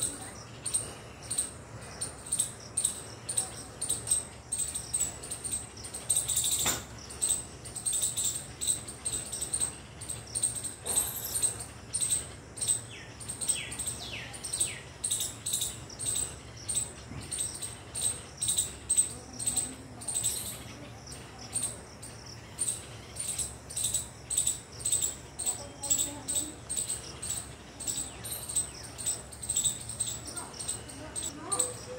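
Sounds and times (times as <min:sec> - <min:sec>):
high-pitched chirping: 0:00.0 - 0:20.6, 0:22.6 - 0:31.9.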